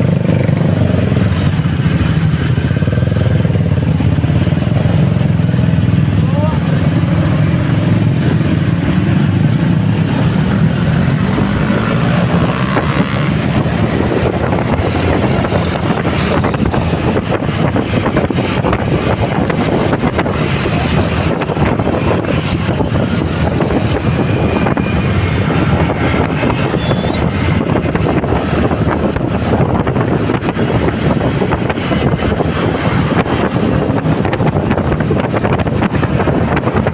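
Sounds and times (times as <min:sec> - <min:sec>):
motorcycle engine: 0:00.0 - 0:36.9
road noise: 0:00.0 - 0:36.9
wind buffeting microphone: 0:00.0 - 0:36.9.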